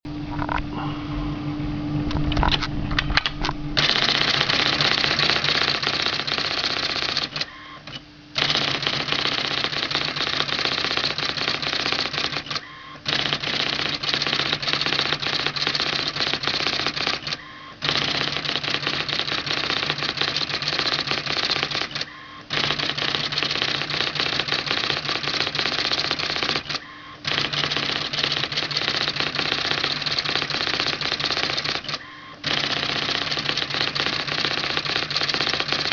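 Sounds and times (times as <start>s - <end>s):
steady low hum: 0.1s - 35.9s
typewriter printing strikes: 3.8s - 35.9s.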